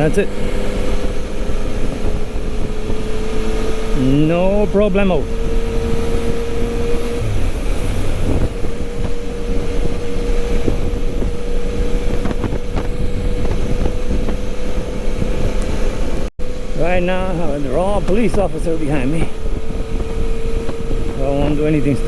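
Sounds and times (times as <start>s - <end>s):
motorcycle engine while riding: 0.0s - 22.0s
wind noise on microphone: 0.0s - 22.0s.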